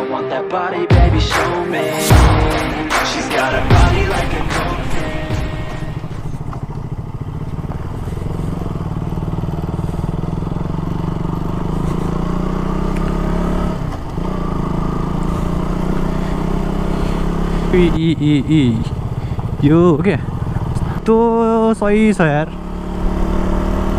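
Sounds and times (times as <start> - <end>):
motorcycle engine running: 2.1 - 23.9
road and wind noise: 3.5 - 23.9.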